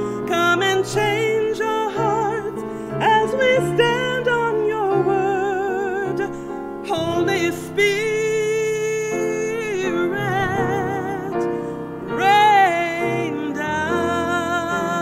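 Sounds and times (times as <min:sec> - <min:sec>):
piano accompaniment: 0:00.0 - 0:15.0
woman singing with vibrato: 0:00.0 - 0:15.0.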